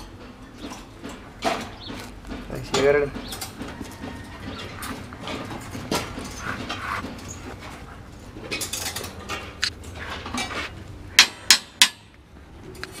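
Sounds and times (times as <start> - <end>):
rebar and wire rustling: 0.0 - 13.0.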